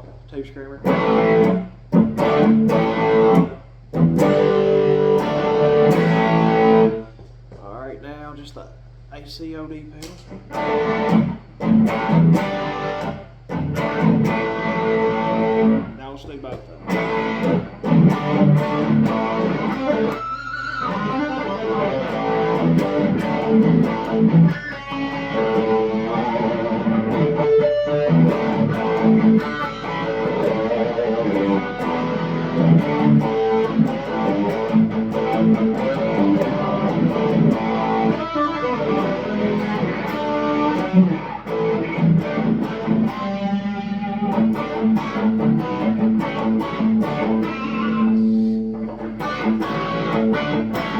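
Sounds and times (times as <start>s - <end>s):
overdriven electric guitar: 0.8s - 7.2s, 10.1s - 16.0s, 16.7s - 50.9s.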